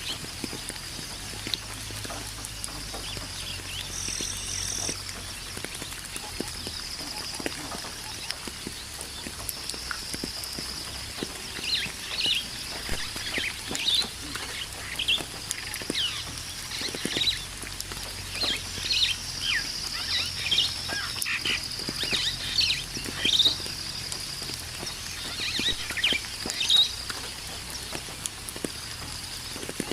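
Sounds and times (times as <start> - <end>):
birds chirping and calling: 0.0 - 23.8, 24.4 - 28.1.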